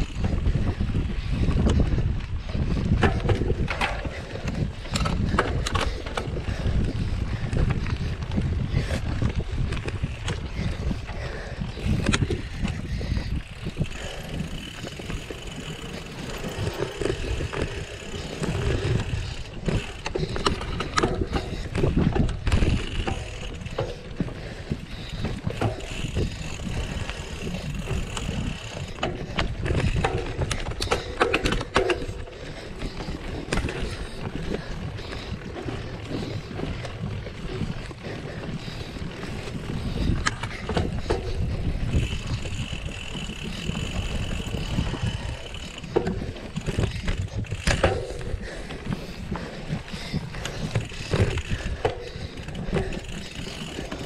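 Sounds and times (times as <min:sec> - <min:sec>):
bike rattling over bumps: 0:00.0 - 0:54.0
bike tyre rumble: 0:00.0 - 0:54.0
wind on microphone: 0:00.0 - 0:54.0.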